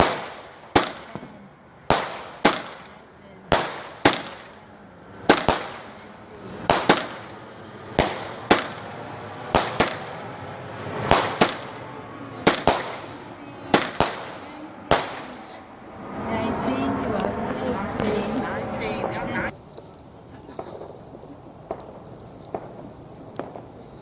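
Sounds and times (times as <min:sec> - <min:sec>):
fireworks bangs with echo: 0:00.0 - 0:15.7, 0:19.0 - 0:24.0.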